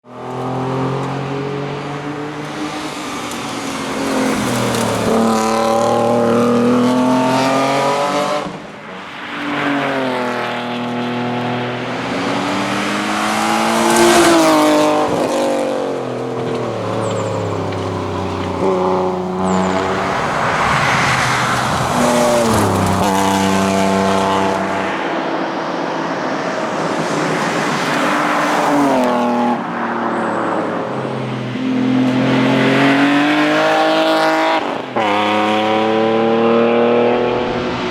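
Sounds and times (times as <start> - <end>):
rally car engine revving: 0.2 - 8.6, 9.8 - 29.6, 30.5 - 37.9.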